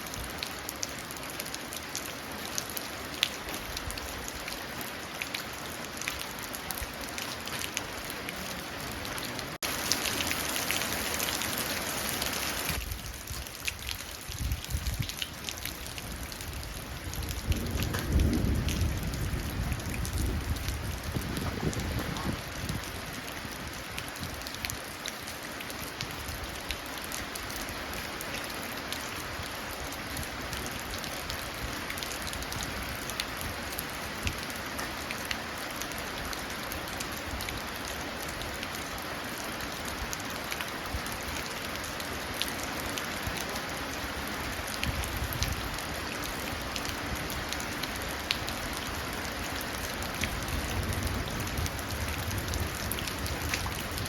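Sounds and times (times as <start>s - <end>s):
rain falling into puddle: 0.0s - 54.0s.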